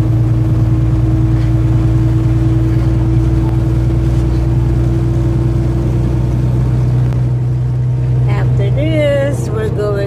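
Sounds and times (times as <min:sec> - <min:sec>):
truck engine and tyres droning: 0:00.0 - 0:10.0.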